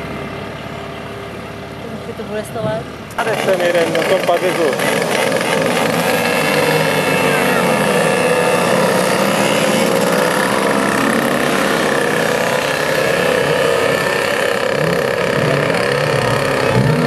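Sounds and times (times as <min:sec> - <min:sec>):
mopeds engines revving: 0:00.0 - 0:17.0.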